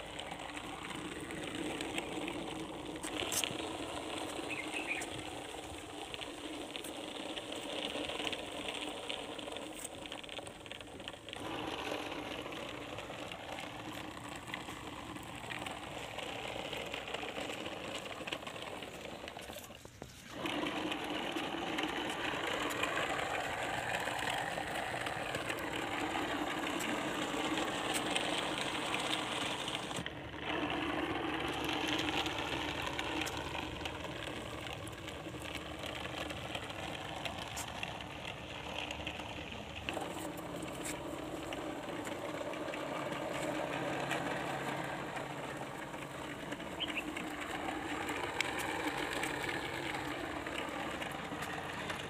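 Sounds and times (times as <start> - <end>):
toy motor whirring: 0.0 - 52.0
wheels and gearing rattling: 0.0 - 52.0.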